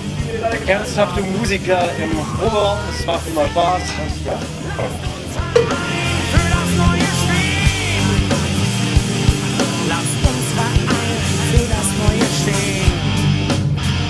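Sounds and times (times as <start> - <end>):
shouted lead vocal: 0.0 - 13.2
bass guitar: 0.0 - 14.0
distorted electric guitar: 0.0 - 14.0
drum kit: 0.0 - 14.0.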